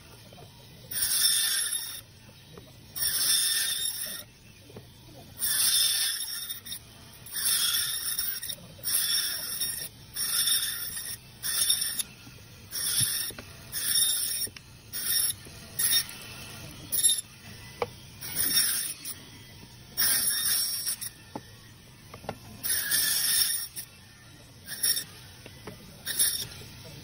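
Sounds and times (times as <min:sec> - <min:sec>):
band saw cutting frozen fish: 0:00.0 - 0:27.0
band saw running: 0:00.0 - 0:27.0.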